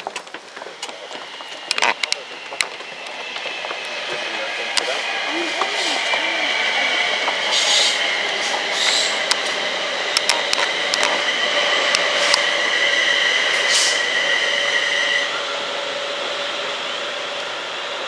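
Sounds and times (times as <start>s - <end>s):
train wheels rumbling: 0.0s - 18.0s
electric train motor whine: 0.6s - 18.0s
hissing squeals: 0.8s - 10.1s, 10.7s - 16.2s.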